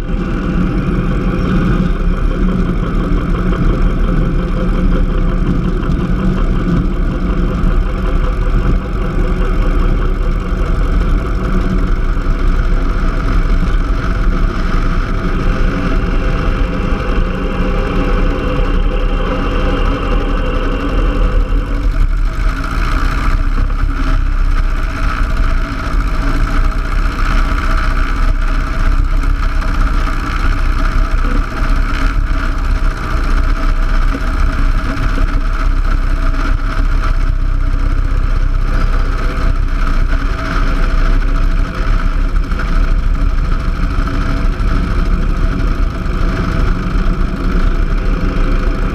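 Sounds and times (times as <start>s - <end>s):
light aircraft engine and propeller: 0.0s - 48.9s.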